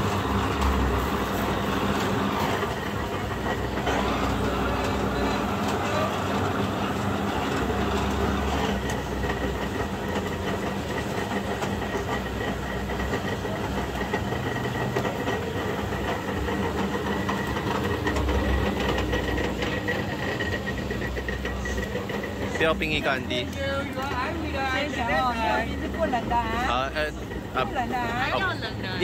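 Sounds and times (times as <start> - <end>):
juicer motor hum: 0.0 - 29.0
sugarcane juicer rollers rattling: 0.0 - 29.0.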